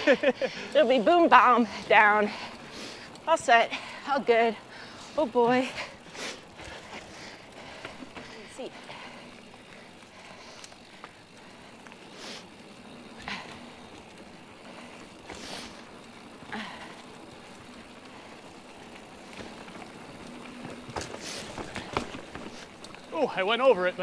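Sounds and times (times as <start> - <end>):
mountain bike tyre and drivetrain noise: 0.0 - 24.0.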